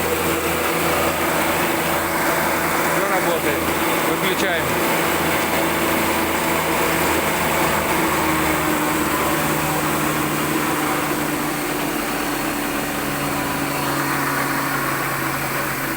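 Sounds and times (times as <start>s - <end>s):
woodworking machine humming: 0.0s - 15.9s.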